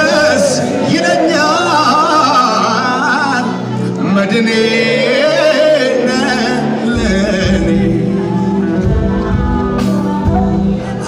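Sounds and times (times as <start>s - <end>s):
deep bass: 0.0s - 11.0s
singer with vibrato: 0.0s - 11.0s.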